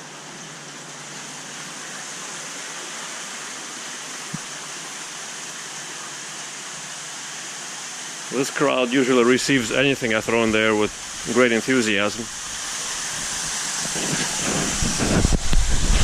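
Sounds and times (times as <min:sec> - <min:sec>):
water rushing through aquarium filter: 0:00.0 - 0:16.0.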